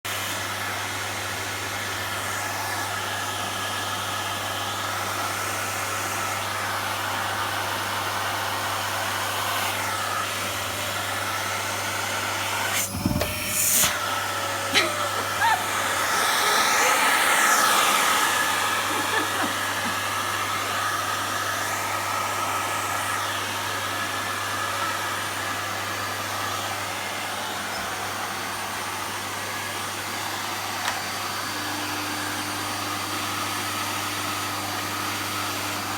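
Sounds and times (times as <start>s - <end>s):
hair dryer blowing: 0.0s - 35.9s.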